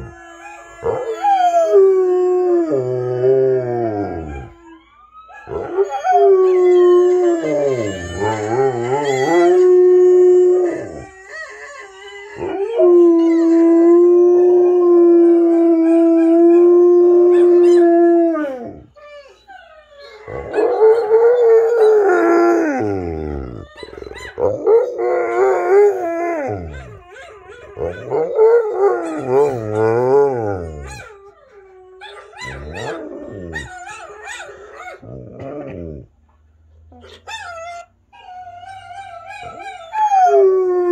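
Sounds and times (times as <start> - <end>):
dogs howling from a television: 0.0 - 36.0, 37.0 - 40.9
dog howling: 0.0 - 36.1, 37.4 - 40.9.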